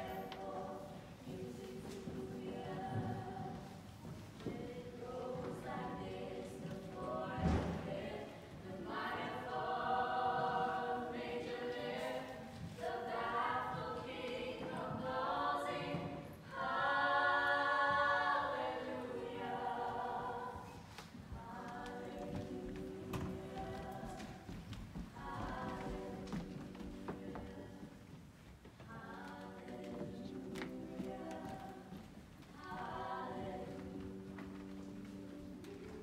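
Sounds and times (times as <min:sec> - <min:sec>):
women singing in harmony: 0:00.0 - 0:36.0.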